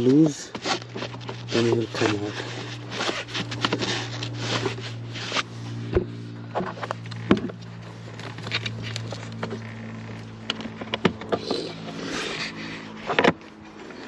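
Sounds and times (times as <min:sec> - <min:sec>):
plastic scraping and rubbing: 0:00.0 - 0:14.0
steady low hum: 0:00.0 - 0:14.0.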